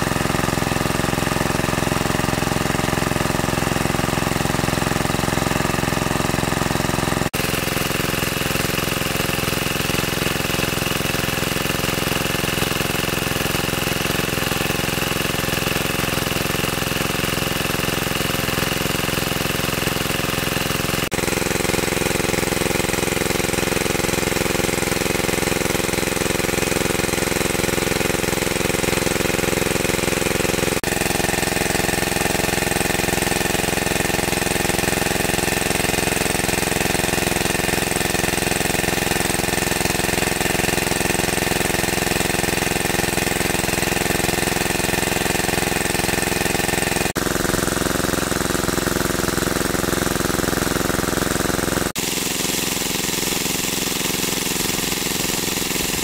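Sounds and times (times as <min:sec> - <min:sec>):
small water pump engine running: 0:00.0 - 0:56.0.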